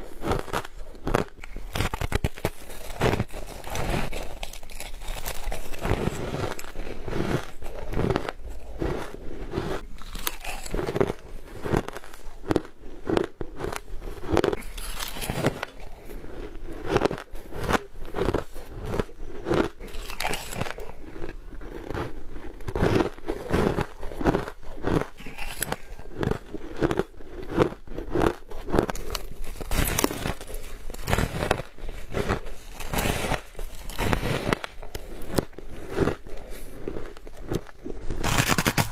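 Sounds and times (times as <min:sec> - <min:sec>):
ice being crunched: 0:00.0 - 0:38.9.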